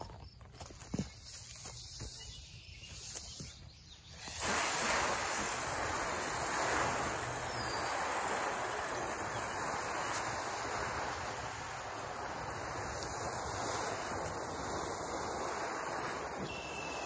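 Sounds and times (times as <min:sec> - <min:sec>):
hose nozzle spraying water: 0:03.0 - 0:17.0.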